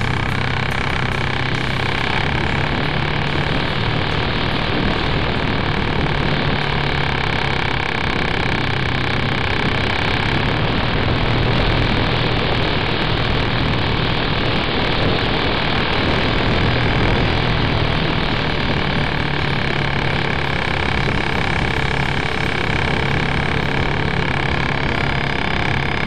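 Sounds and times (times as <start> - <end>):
model plane motor running: 0.0 - 26.0
steady whine: 0.0 - 26.0.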